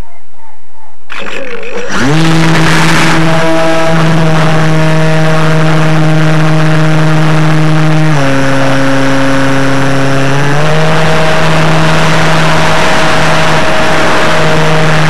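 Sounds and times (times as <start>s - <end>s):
rush of noise: 1.0s - 15.0s
model aircraft motor humming: 1.1s - 15.0s.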